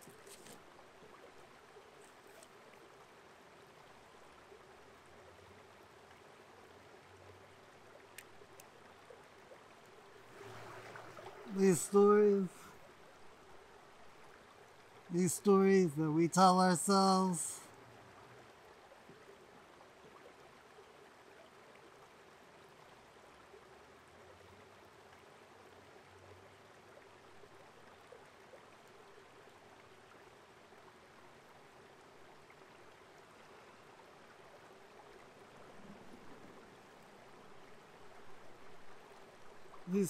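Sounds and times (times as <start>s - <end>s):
creek trickling: 0.0s - 40.0s.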